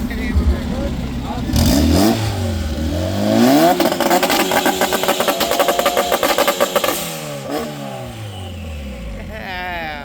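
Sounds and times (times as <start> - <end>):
car engine revving with stutter: 0.0 - 9.4.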